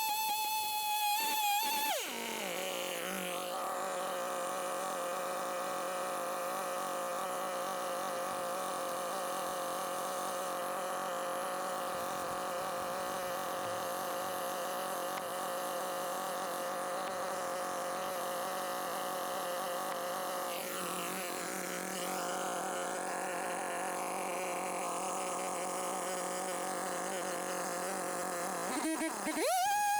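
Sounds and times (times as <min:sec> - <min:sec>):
chainsaw cutting log: 0:00.0 - 0:29.9.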